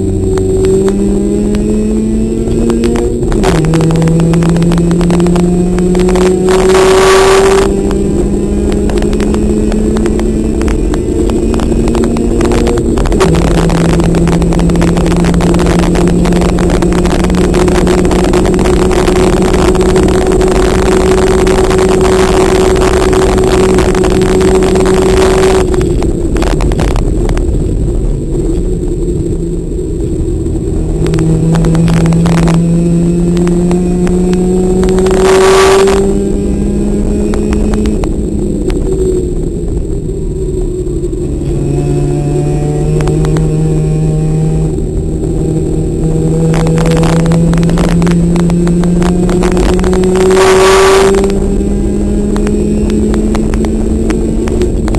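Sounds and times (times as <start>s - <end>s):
race car engine pulling hard: 0.0s - 54.9s
rush of noise: 0.0s - 54.9s.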